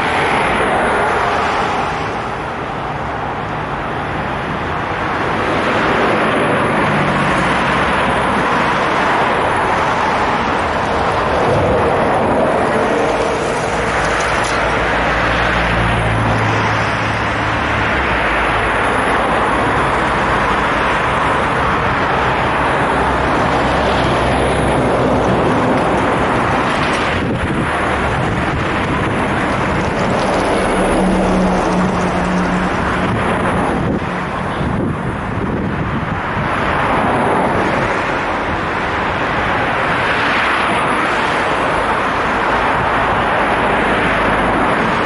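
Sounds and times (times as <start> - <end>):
cars driving past: 0.0 - 45.0.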